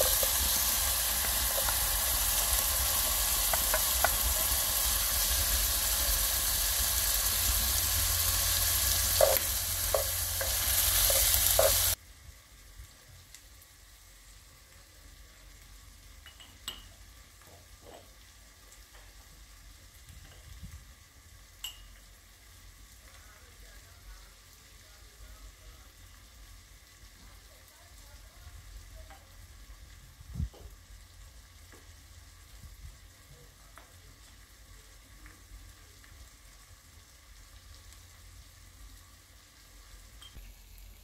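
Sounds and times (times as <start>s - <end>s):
food sizzling in a pot: 0.0s - 41.0s.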